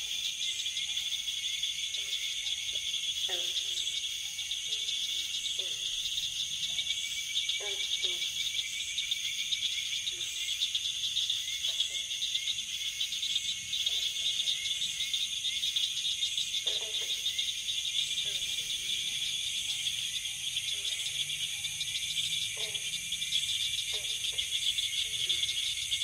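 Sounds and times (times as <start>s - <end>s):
faint low-pitched insect calls: 0.0s - 26.0s
insects trilling chorus: 0.0s - 26.0s.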